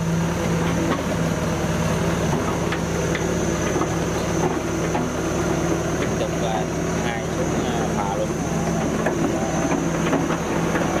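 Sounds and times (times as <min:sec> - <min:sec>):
heavy engine running: 0:00.0 - 0:11.0.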